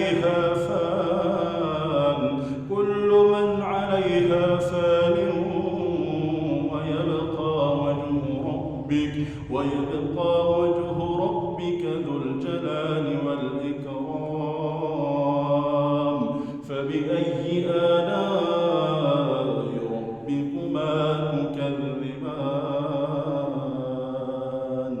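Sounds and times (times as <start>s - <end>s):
man chanting recitation: 0.0s - 25.0s.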